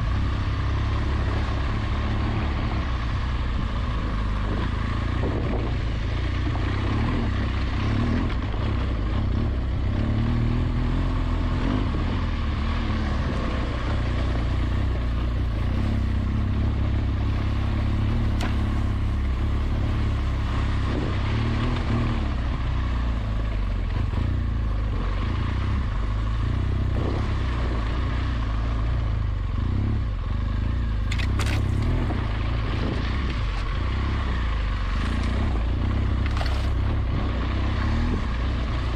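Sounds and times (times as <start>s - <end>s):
motorcycle engine at low revs: 0.0s - 38.9s.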